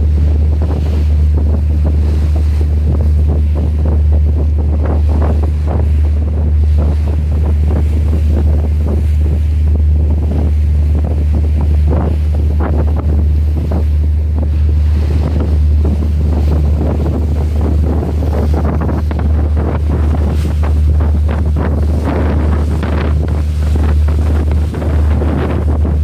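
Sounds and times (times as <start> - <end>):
steady low rumble: 0.0 - 26.0
waves splashing: 0.0 - 26.0
wind buffeting microphone: 0.0 - 26.0.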